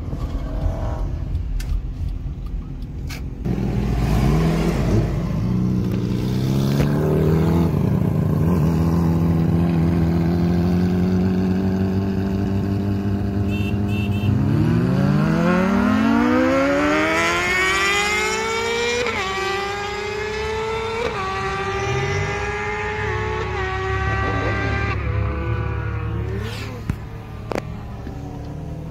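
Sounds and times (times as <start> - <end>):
car engine drone: 0.0 - 28.9
engine revving at full throttle: 3.4 - 13.6, 14.3 - 27.6.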